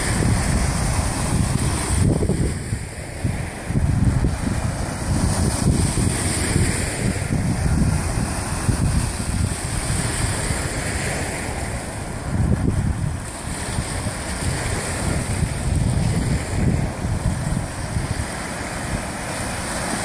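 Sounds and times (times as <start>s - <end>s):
waves washing against shore: 0.0s - 20.0s
wind buffeting microphone: 0.0s - 20.0s.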